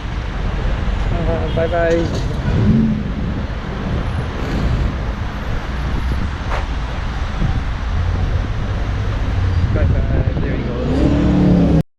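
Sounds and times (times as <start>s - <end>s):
road traffic rumble: 0.0s - 11.8s.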